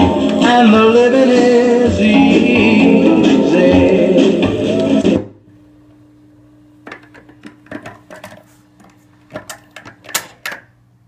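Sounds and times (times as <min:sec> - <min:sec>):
low hum from record player: 0:00.0 - 0:11.0.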